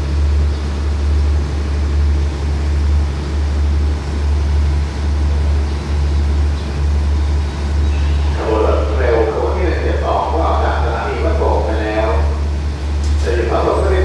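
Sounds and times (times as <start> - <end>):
diesel train engines idling: 0.0 - 14.0.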